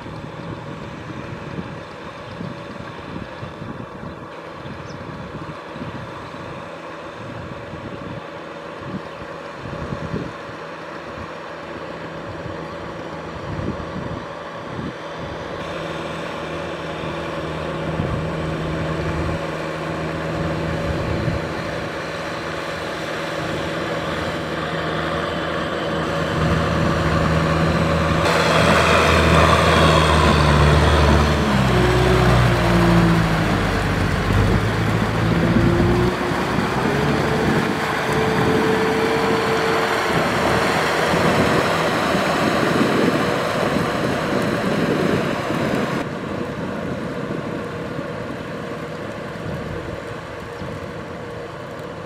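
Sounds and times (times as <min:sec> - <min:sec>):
diesel tractor engine droning: 0:00.0 - 0:52.0.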